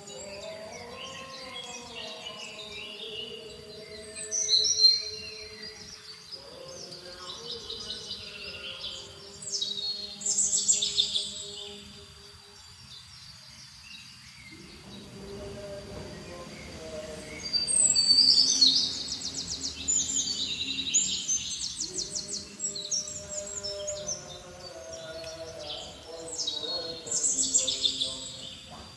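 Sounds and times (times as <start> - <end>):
faint background music tones: 0.0 - 28.9
small birds chirping and trilling: 0.0 - 28.9.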